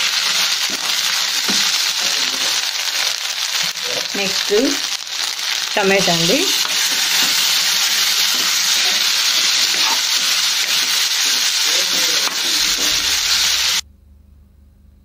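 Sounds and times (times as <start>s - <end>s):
spatula stirring in pan: 0.0s - 3.8s, 4.8s - 13.8s
tomatoes sizzling in oil: 0.0s - 13.8s.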